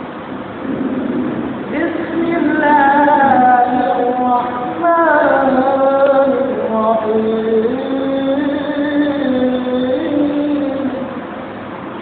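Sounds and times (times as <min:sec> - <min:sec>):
person chanting: 0:00.7 - 0:11.2.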